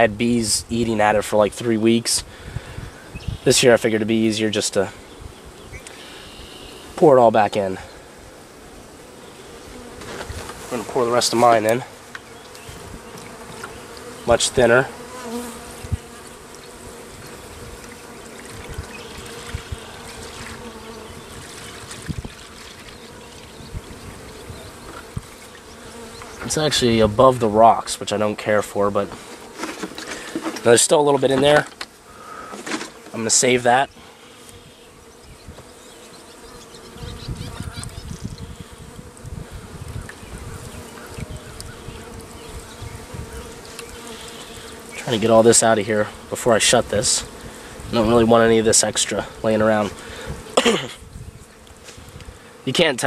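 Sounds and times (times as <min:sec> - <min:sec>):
bees buzzing: 0:00.0 - 0:53.0.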